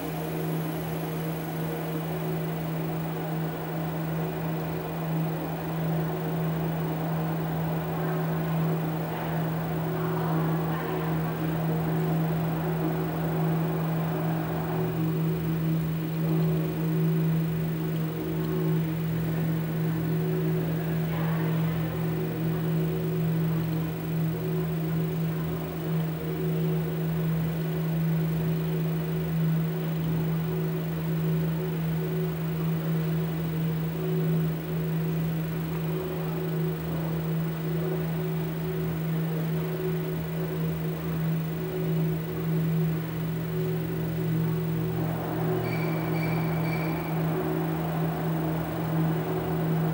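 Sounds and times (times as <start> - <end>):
deep steady hum: 0.0 - 49.9
light hiss: 0.0 - 49.9.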